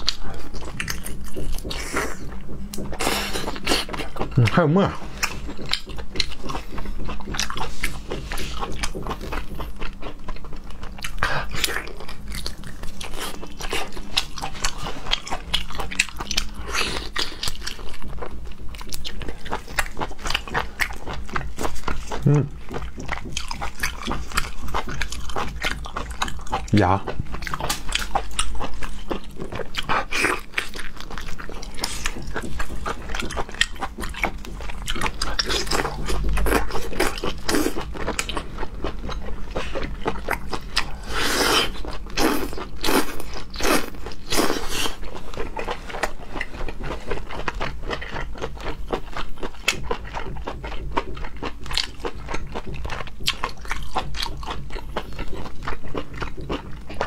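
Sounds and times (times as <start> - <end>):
close chewing and biting: 0.0 - 57.0.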